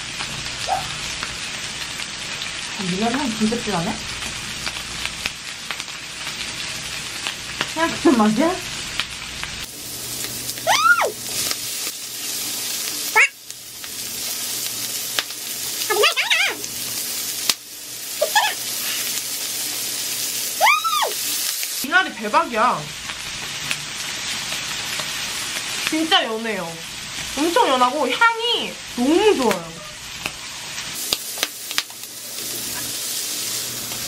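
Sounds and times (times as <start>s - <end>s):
meat sizzling on grill pan: 0.0s - 34.0s.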